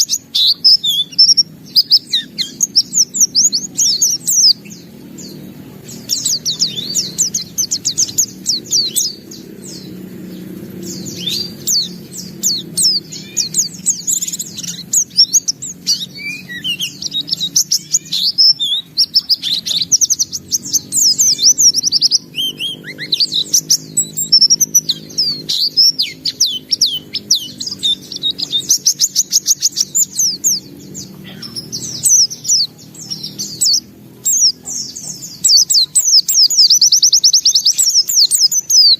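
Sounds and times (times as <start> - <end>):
bird singing high chirps and trills: 0.0 - 38.9.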